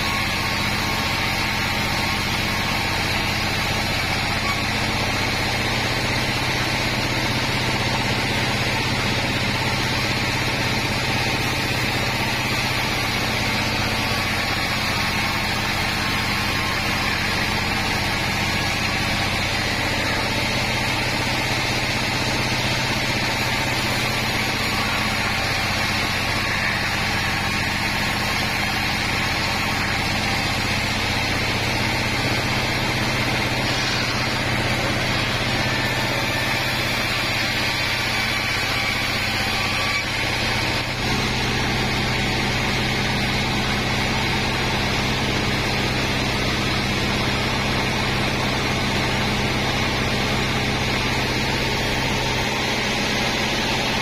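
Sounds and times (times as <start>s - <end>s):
band saw ripping through wood: 0.0s - 54.0s
machine hum: 0.0s - 54.0s.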